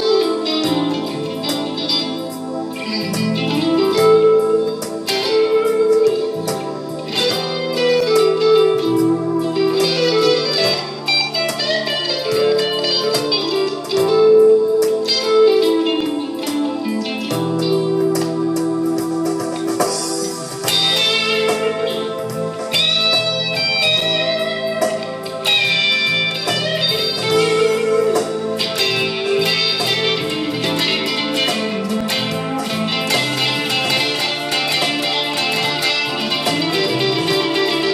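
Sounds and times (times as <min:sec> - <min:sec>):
electric guitar lead line: 0:00.0 - 0:37.9.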